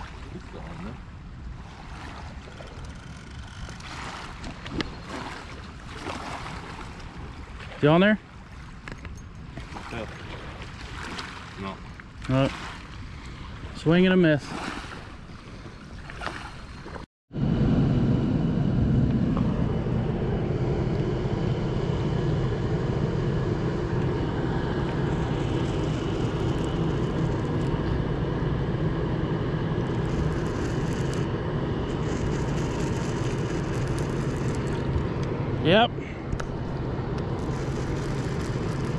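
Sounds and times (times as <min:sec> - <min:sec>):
boat diesel engine drone: 0:00.0 - 0:16.0, 0:16.6 - 0:38.9.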